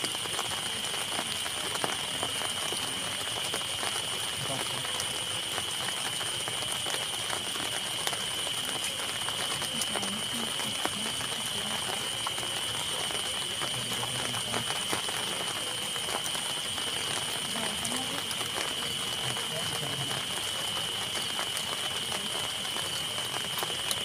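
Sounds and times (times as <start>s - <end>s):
night insects trilling: 0.0s - 24.0s
sharp clicks and crackles: 3.4s - 24.0s.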